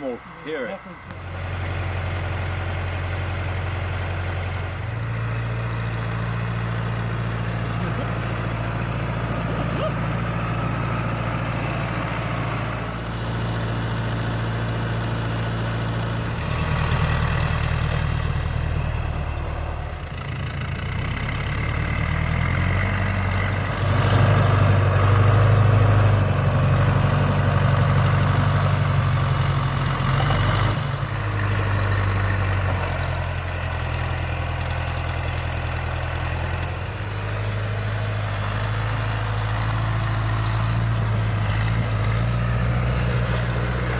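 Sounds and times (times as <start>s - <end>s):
snowplow engine running: 0.0s - 43.9s.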